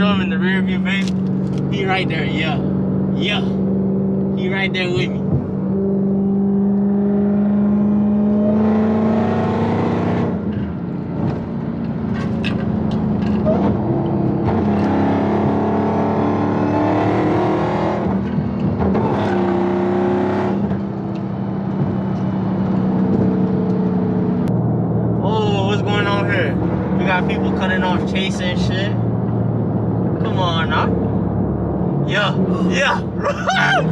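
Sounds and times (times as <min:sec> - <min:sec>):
car engine droning at speed: 0:00.0 - 0:33.9.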